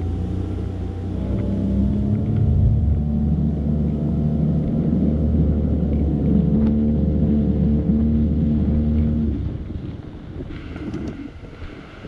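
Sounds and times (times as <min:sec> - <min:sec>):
boat motor running: 0:00.0 - 0:11.3.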